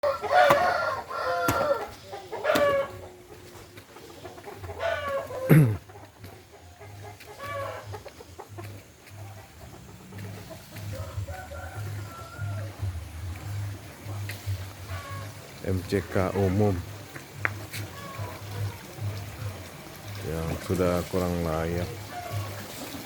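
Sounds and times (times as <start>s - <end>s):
chickens clucking and squawking: 0.0s - 23.0s.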